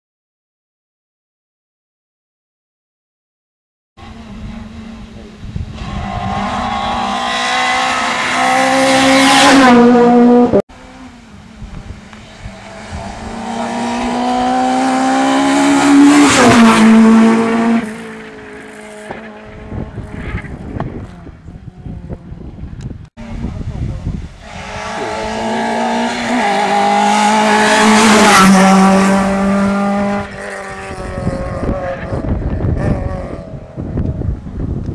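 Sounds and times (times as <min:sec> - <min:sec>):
rally car engines passing: 0:04.0 - 0:34.5.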